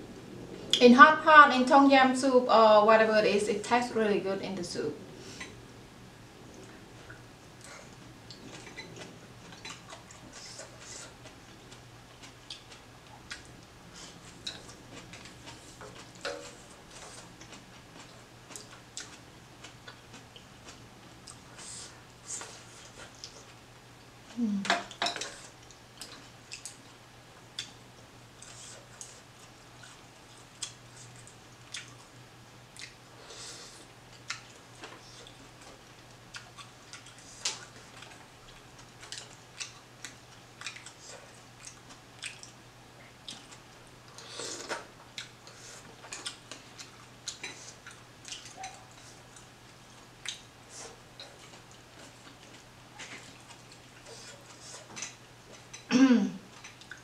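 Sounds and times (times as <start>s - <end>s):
wet chewing sounds: 6.5s - 33.0s, 33.7s - 55.9s, 56.5s - 57.0s.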